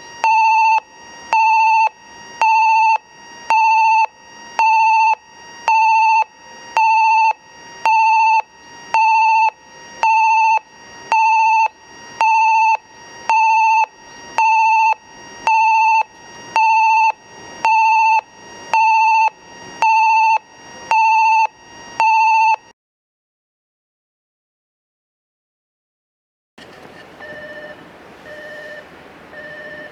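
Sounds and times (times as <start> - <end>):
train approach warning beeps: 0.0 - 22.7, 27.2 - 29.9.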